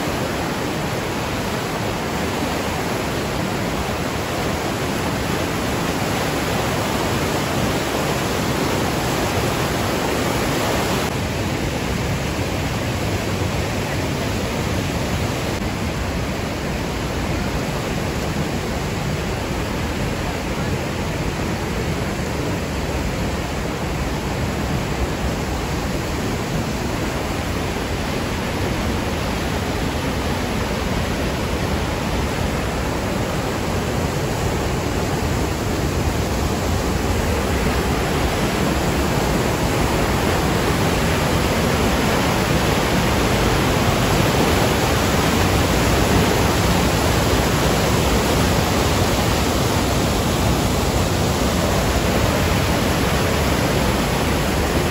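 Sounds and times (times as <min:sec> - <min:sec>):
rapids roaring: 0:00.0 - 0:54.9.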